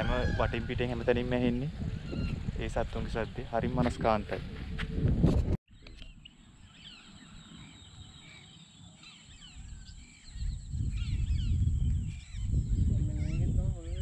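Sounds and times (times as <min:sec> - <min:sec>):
birds chirping and whistling: 0:00.0 - 0:04.2, 0:05.7 - 0:14.0.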